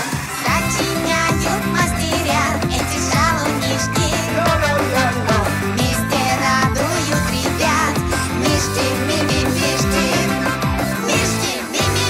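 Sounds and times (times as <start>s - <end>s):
upbeat cartoon theme music: 0.0s - 12.0s.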